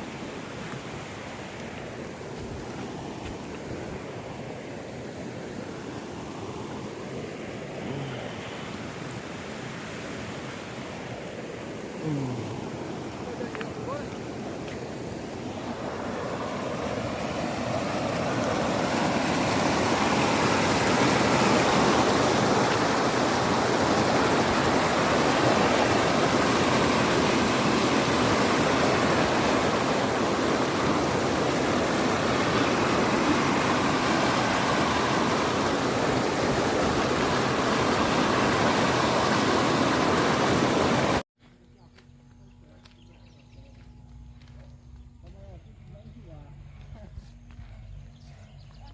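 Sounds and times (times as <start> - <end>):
river water rushing: 0.0 - 41.2.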